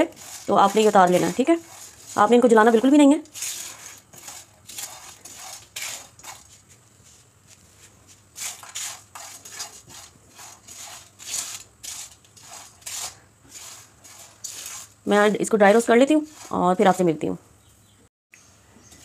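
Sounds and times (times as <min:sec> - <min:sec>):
spices rattling in frying pan: 0:00.0 - 0:06.6, 0:08.4 - 0:17.0
spatula scraping pan: 0:00.0 - 0:07.3, 0:08.3 - 0:17.2.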